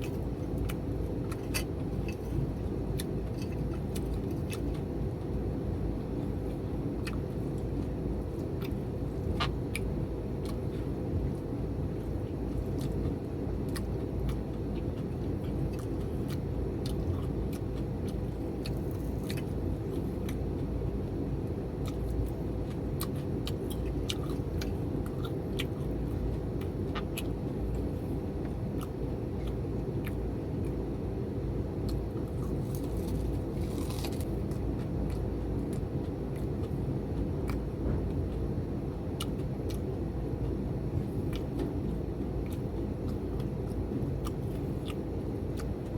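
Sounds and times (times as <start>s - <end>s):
chewing crispy fried food: 0.0s - 45.9s.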